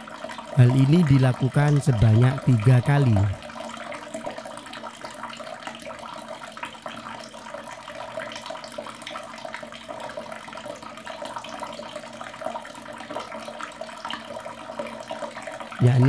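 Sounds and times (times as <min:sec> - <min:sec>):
water running from tap: 0:00.0 - 0:16.0.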